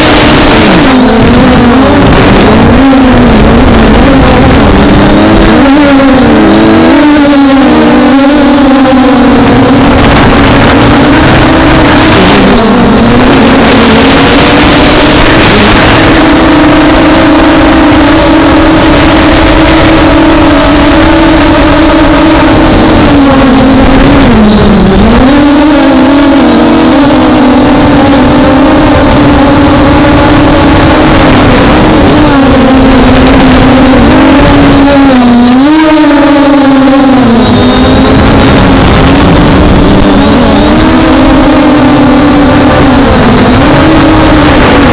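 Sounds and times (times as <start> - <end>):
drone motors humming: 0.0 - 44.9
heavy wind noise: 0.0 - 44.9.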